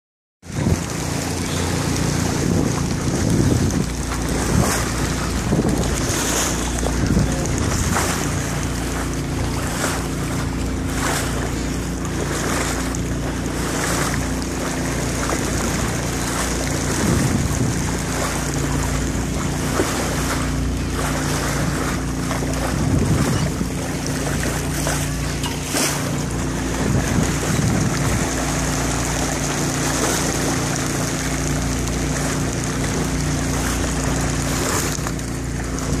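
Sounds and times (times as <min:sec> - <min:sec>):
wind buffeting microphone: 0:00.4 - 0:11.7, 0:12.3 - 0:36.0
choppy water against boat: 0:00.4 - 0:36.0
steady low hum: 0:00.5 - 0:36.0.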